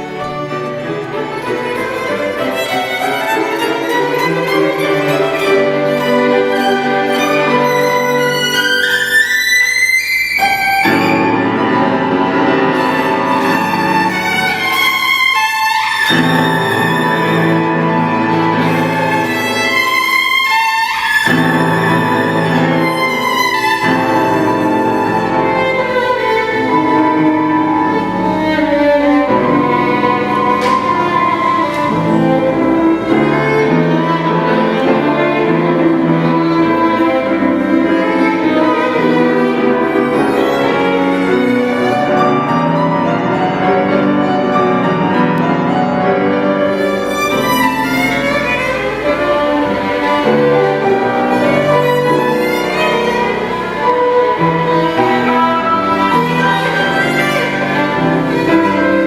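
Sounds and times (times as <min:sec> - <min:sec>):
cello: 0:00.0 - 0:59.0
piano: 0:00.0 - 0:59.0
violin: 0:00.0 - 0:59.0.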